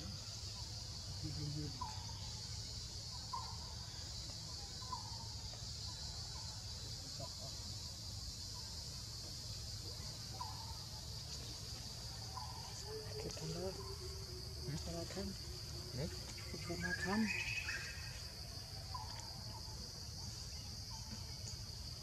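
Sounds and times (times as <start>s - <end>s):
faint chirping calls: 0.0s - 22.0s
forest insects droning: 0.0s - 22.0s.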